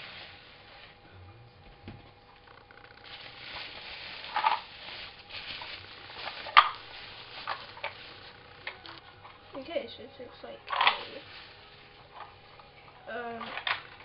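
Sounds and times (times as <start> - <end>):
bubble wrap crinkling: 0.0 - 1.0, 1.8 - 14.0.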